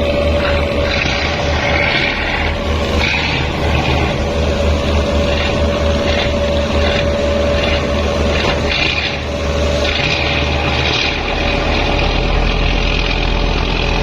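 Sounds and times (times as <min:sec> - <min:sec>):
boat engine humming: 0:00.0 - 0:14.0
water washing around hull: 0:00.0 - 0:14.0.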